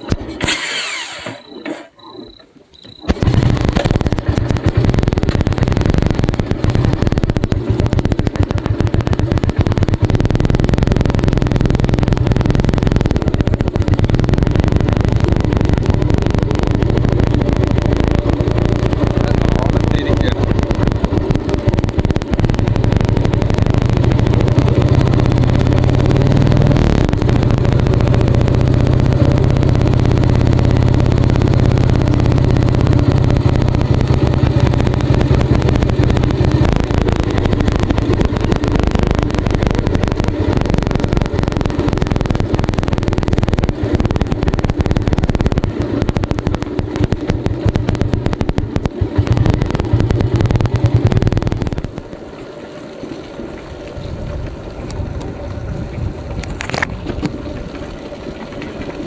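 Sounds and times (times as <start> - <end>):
motorcycle engine running: 0.0 - 52.4, 53.9 - 59.0.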